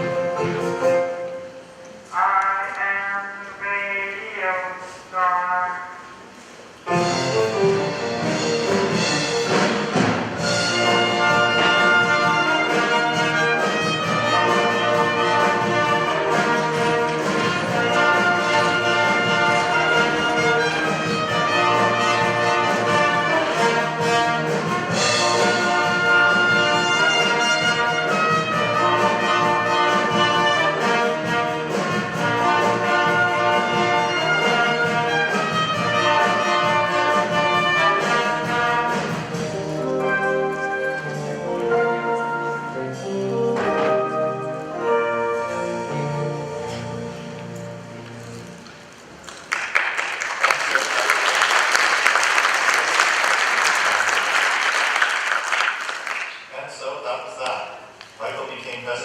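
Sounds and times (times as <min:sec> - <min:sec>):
brass-led orchestral music: 0:00.0 - 0:06.2, 0:06.8 - 0:49.2.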